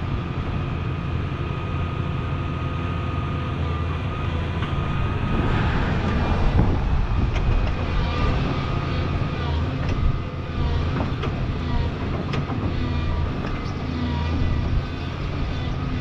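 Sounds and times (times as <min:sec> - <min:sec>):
excavator diesel engine rumble: 0:00.0 - 0:16.0
hydraulic whine: 0:00.1 - 0:16.0.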